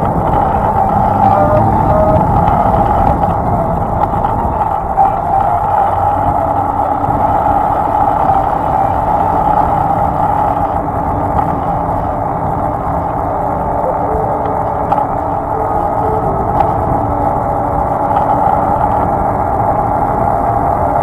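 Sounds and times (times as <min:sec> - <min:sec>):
faint hum: 0:00.0 - 0:21.0
vehicle driving along a road: 0:00.0 - 0:21.0.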